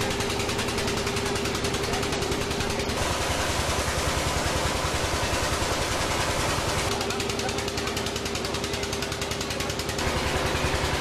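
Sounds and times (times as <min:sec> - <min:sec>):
pump engine running: 0:00.0 - 0:11.0.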